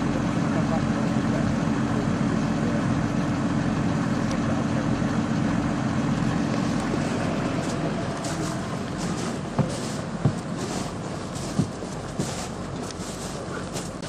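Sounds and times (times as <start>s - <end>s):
snow vehicle engine idling: 0.0s - 14.0s.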